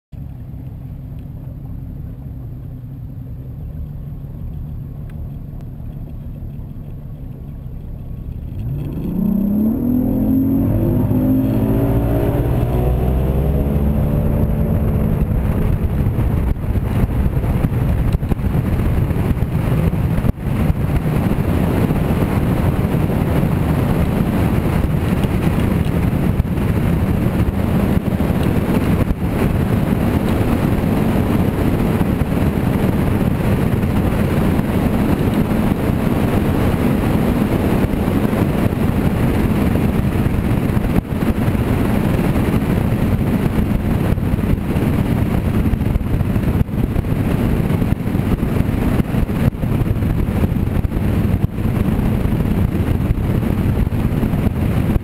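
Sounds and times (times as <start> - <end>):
outboard motor running: 0.2 - 55.0
wind noise on microphone: 0.2 - 55.0.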